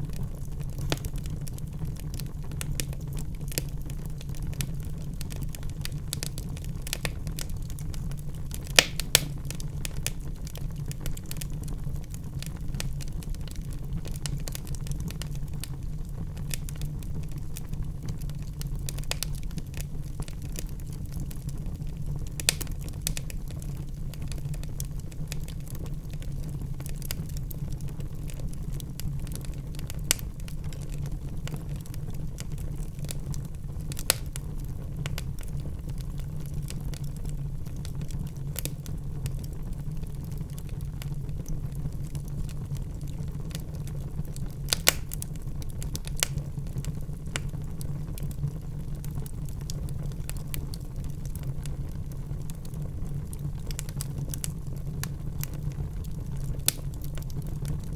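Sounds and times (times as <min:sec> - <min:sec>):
loud fire pops: 0:00.0 - 0:27.6, 0:29.0 - 0:39.6, 0:40.3 - 0:57.9
wood fire crackling: 0:00.0 - 0:57.9.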